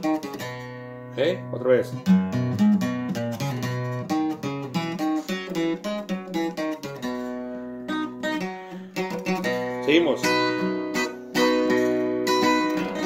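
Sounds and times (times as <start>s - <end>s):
acoustic guitar picking notes: 0.0s - 13.0s.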